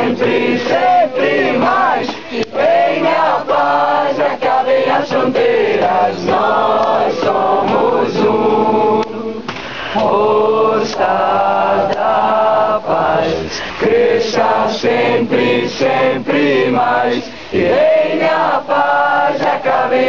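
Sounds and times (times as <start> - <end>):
group singing a chant: 0.0 - 20.0.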